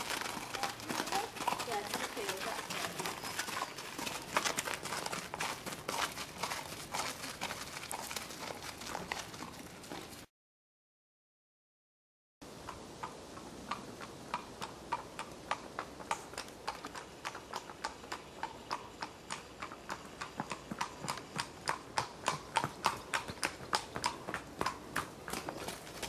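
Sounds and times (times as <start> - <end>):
hooves clip-clopping on tarmac: 0.0 - 10.3, 12.6 - 26.0.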